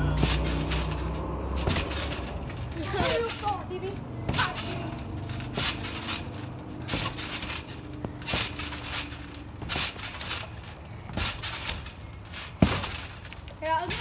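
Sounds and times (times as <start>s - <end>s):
feet thudding on trampoline: 0.0s - 14.0s
trampoline springs clinking: 0.0s - 14.0s.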